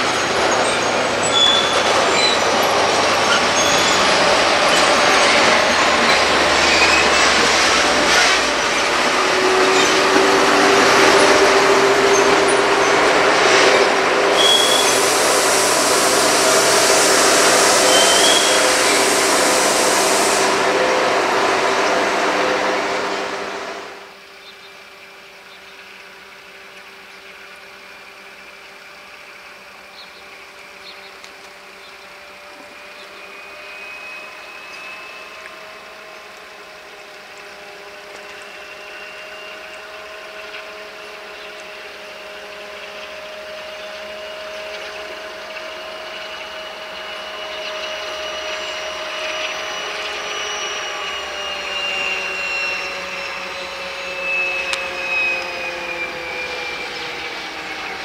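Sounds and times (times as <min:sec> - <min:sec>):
diesel locomotive engine whine: 0:00.0 - 0:58.0.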